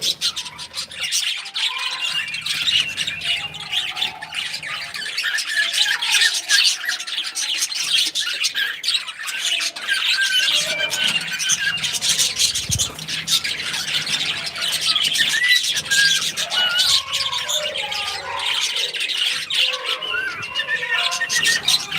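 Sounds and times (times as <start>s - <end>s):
parrots chattering: 0.0s - 21.9s.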